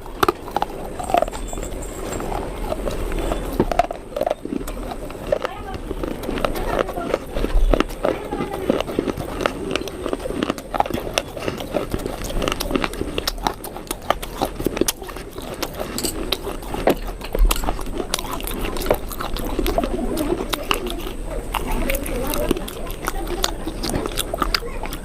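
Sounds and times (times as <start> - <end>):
person biting and chewing crisp food: 0.0 - 25.0.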